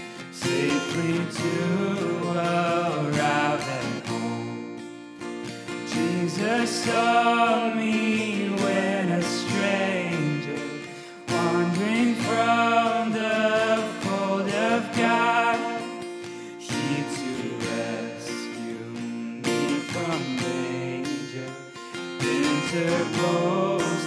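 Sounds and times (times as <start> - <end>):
person singing: 0.0 - 4.7, 5.7 - 24.0
acoustic guitar hymn: 0.0 - 24.0.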